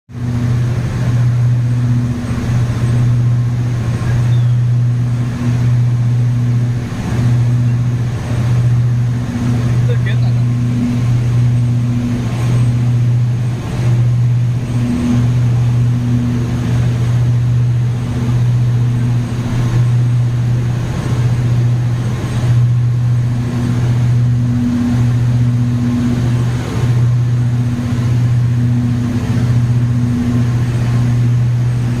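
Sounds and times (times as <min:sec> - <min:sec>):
ferry engines droning: 0:00.1 - 0:32.0.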